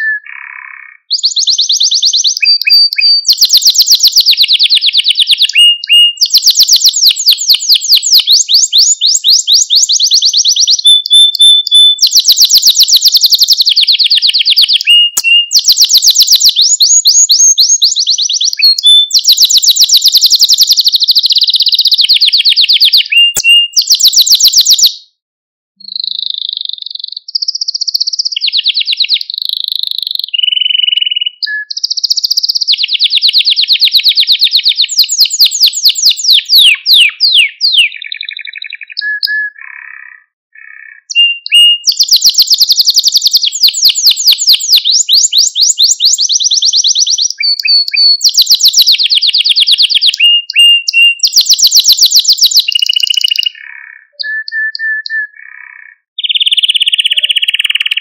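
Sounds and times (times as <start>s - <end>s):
canary singing trills: 0.0s - 25.2s, 25.8s - 58.0s.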